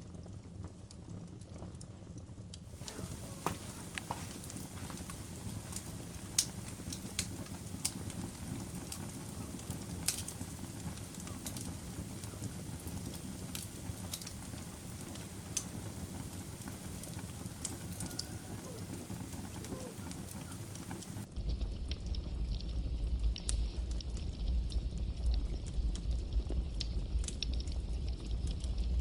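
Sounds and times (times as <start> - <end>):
fire crackling and popping: 2.6 - 29.0
campfire flames rumbling: 2.7 - 29.0.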